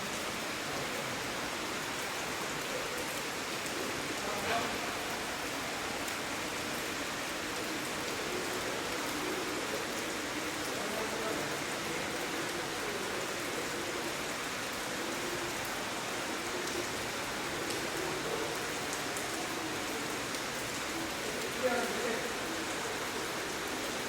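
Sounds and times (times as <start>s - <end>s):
rain splashing in a cave: 0.0s - 24.0s.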